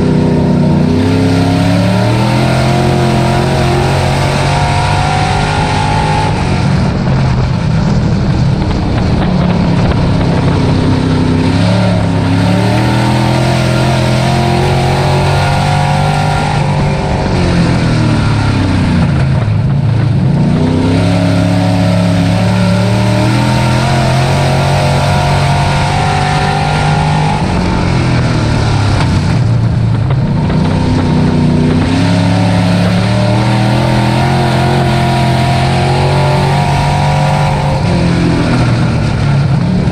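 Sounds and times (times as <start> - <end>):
race truck engine running hard: 0.0 - 39.9.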